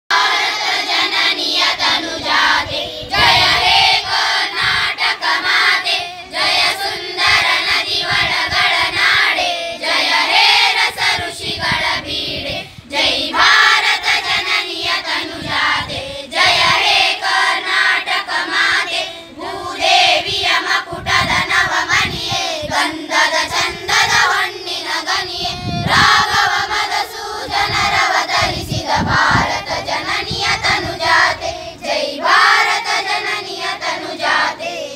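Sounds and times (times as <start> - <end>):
children's choir singing: 0.1 - 34.9.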